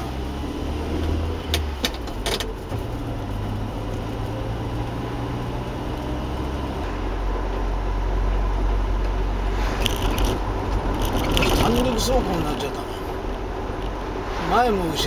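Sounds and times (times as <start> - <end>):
car engine drone: 0.0 - 15.0
road noise: 0.0 - 15.0.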